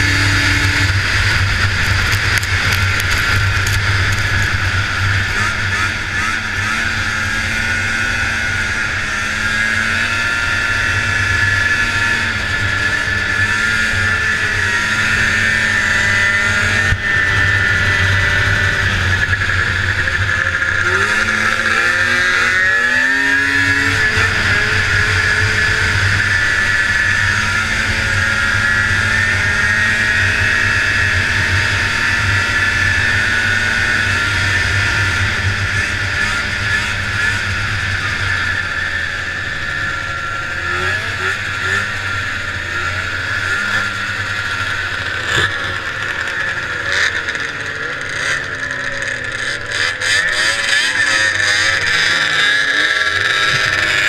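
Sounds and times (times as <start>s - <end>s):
snowmobile engine running hard: 0.0s - 54.0s.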